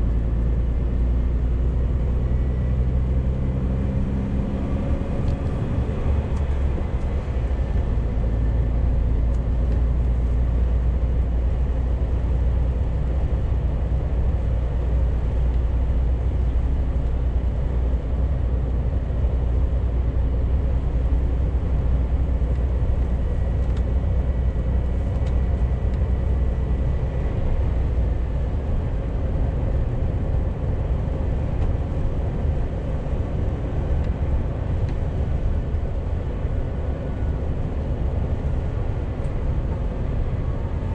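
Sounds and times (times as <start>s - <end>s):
truck engine and tyres rumbling: 0.0s - 40.9s.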